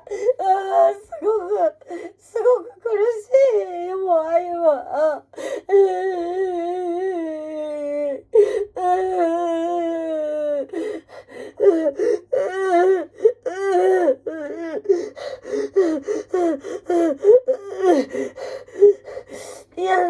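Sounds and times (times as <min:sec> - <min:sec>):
woman crying and sobbing: 0:00.0 - 0:20.0.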